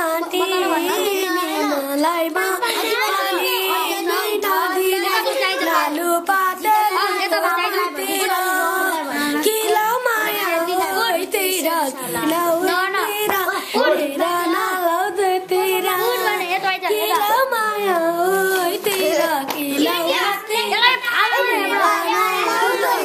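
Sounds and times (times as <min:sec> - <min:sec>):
children singing together: 0:00.0 - 0:23.0.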